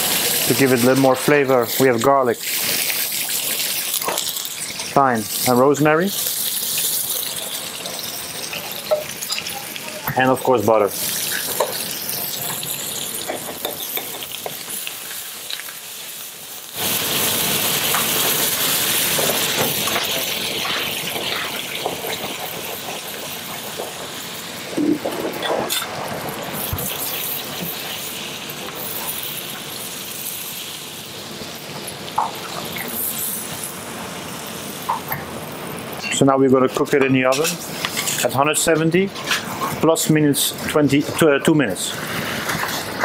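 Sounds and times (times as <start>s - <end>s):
meat sizzling in a frying pan: 0.0s - 43.0s.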